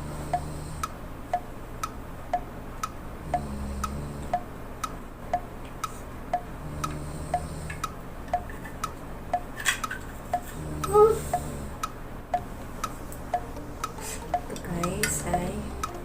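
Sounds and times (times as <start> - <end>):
clock ticking: 0.0 - 16.0
faint low hum: 0.0 - 16.0.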